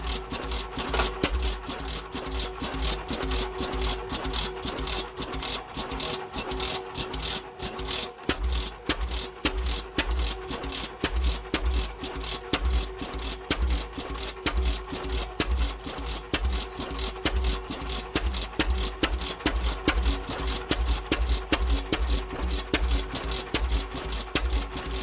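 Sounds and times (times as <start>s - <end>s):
pump jack engine running: 0.0s - 25.0s.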